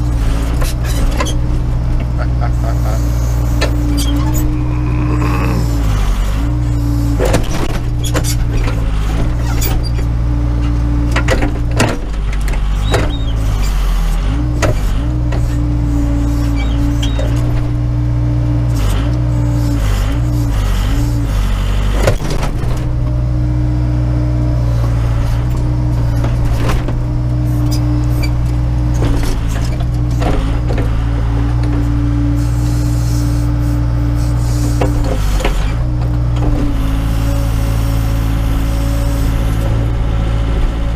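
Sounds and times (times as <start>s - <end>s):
backhoe diesel engine: 0.0s - 40.9s.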